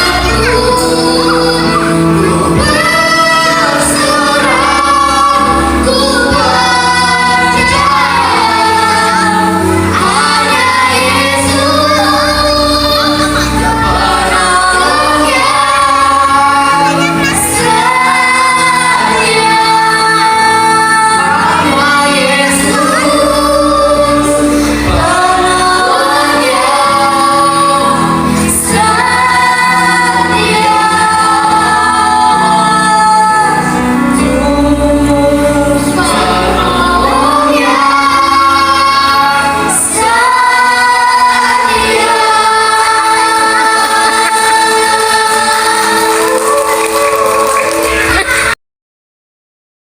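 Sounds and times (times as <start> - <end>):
women singing together: 0.0 - 48.5
music accompaniment: 0.0 - 48.6.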